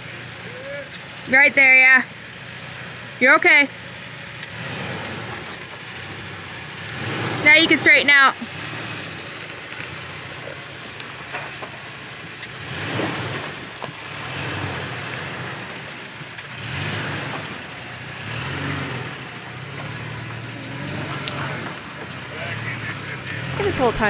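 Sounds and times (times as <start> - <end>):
truck engine running: 0.0 - 24.0
tyres crackling on dirt trail: 0.0 - 24.0.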